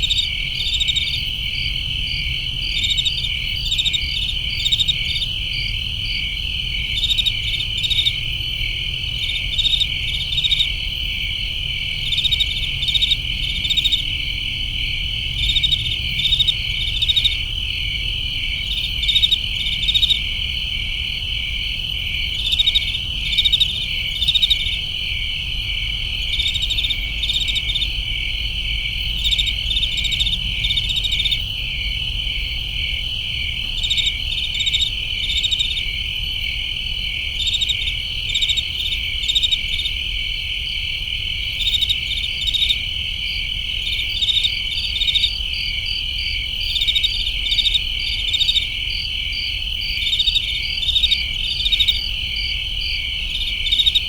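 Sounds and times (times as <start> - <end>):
crickets trilling: 0.0 - 54.0
pulsed cricket chirps: 0.0 - 54.0.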